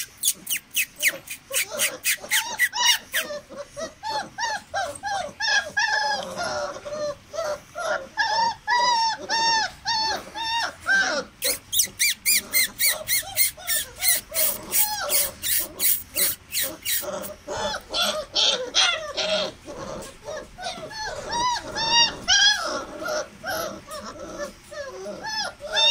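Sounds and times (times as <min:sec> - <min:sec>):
puppies yelping and barking: 0:00.0 - 0:25.9.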